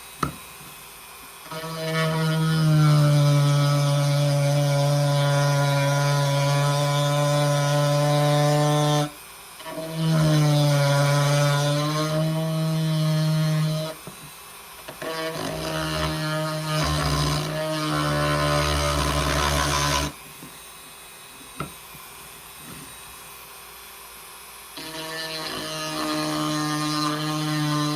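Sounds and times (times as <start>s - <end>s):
electric power tool on wood: 0.0s - 20.8s, 24.6s - 27.9s.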